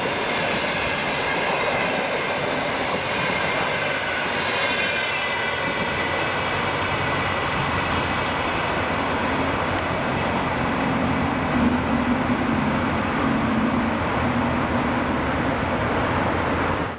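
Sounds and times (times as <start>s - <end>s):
wheels rumbling on rails: 0.0s - 16.9s.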